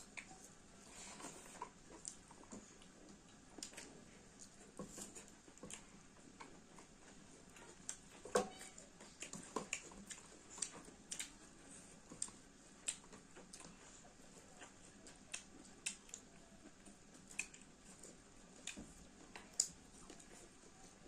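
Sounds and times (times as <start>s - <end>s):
chewing with wet mouth smacks: 1.5s - 8.1s, 9.0s - 20.4s.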